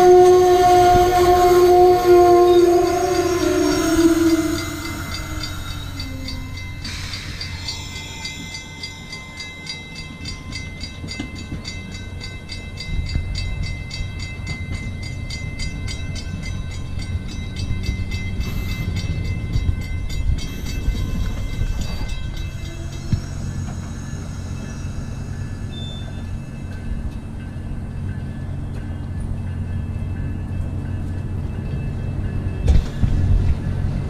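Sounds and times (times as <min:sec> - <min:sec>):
train coaches rumbling past: 0:00.0 - 0:34.0.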